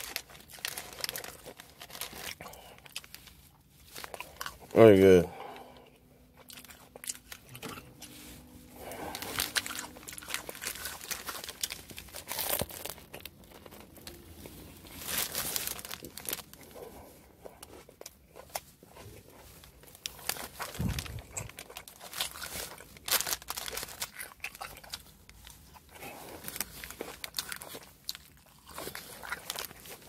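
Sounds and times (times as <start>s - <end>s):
paper wrapper crinkling: 0.0s - 4.9s, 6.4s - 30.0s.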